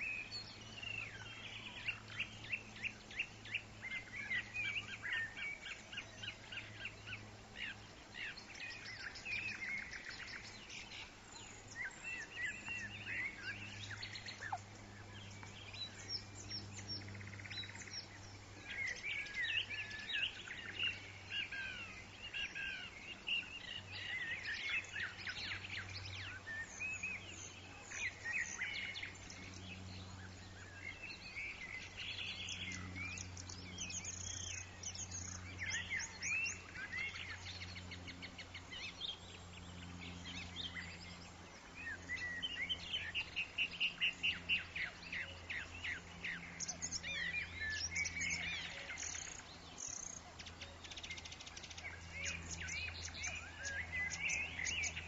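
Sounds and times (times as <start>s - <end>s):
faint steady low hum: 0.0s - 55.0s
small birds chirping and singing: 0.0s - 55.0s.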